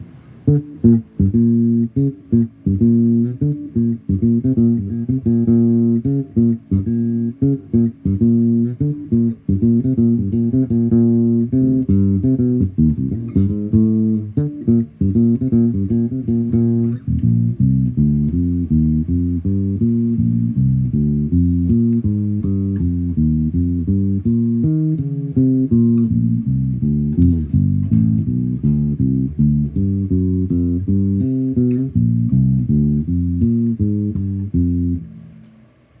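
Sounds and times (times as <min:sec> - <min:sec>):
electric bass guitar plucked: 0:00.0 - 0:35.6.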